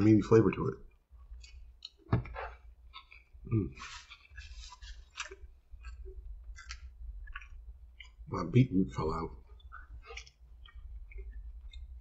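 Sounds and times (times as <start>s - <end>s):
man chewing food: 0.9s - 8.6s, 9.3s - 12.0s.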